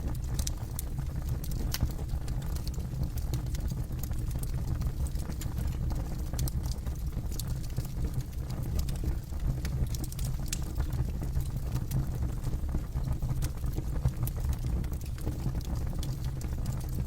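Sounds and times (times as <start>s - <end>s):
burning wood crackling and popping: 0.0s - 17.0s
campfire low rumble: 0.0s - 17.0s.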